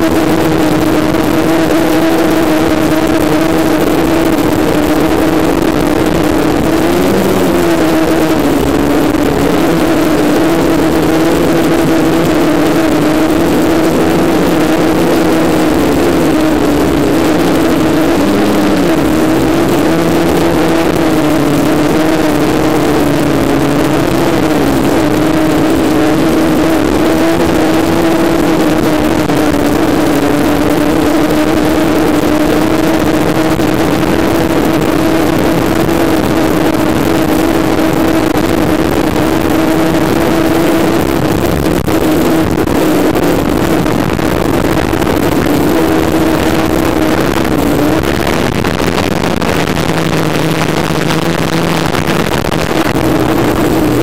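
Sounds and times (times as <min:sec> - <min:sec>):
drone motors buzzing: 0:00.0 - 0:54.0
wind noise: 0:00.0 - 0:54.0.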